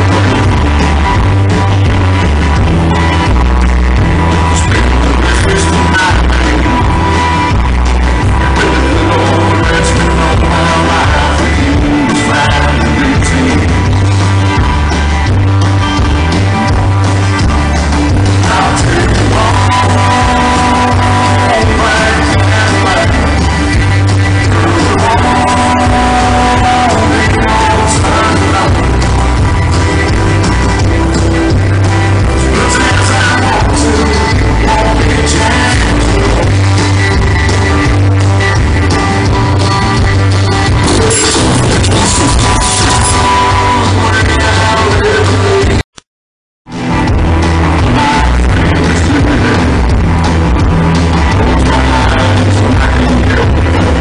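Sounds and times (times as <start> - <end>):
person singing: 0.0 - 1.0, 4.4 - 7.6, 8.2 - 14.6, 18.1 - 38.1, 38.8 - 45.8, 47.6 - 54.0
live country band playing: 0.0 - 45.8, 46.7 - 54.0
steady drums: 0.0 - 45.8, 46.7 - 54.0
driving bass line: 0.0 - 46.0, 46.6 - 54.0.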